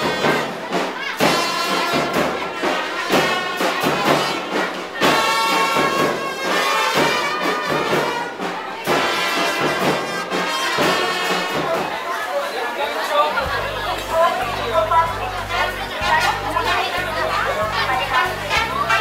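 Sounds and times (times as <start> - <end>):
steady drum beat: 0.0 - 12.2, 13.4 - 19.0
brass band playing: 0.0 - 19.0.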